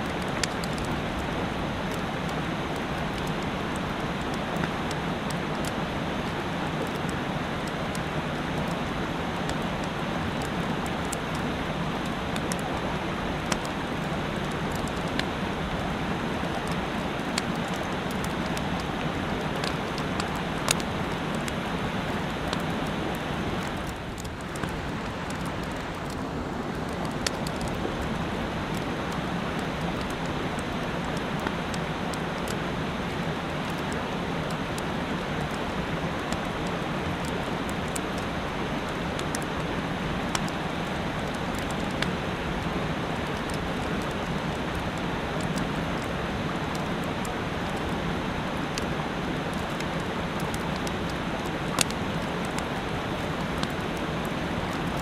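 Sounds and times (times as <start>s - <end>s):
campfire crackling: 0.0s - 55.0s
mountain stream rushing: 0.0s - 55.0s.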